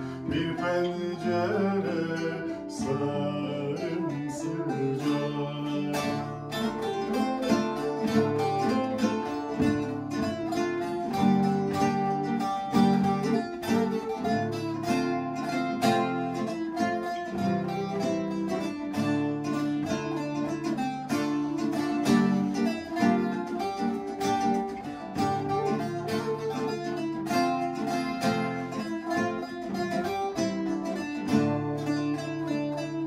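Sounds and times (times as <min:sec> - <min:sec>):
folk tune on strings and flute: 0:00.0 - 0:33.0.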